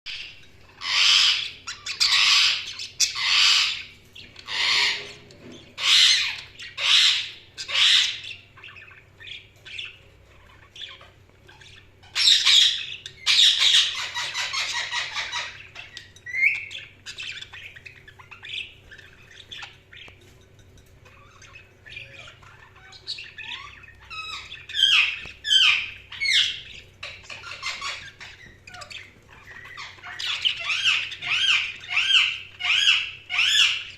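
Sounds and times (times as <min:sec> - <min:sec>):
budgerigars squawking and chattering: 0:00.1 - 0:20.4, 0:21.0 - 0:33.9.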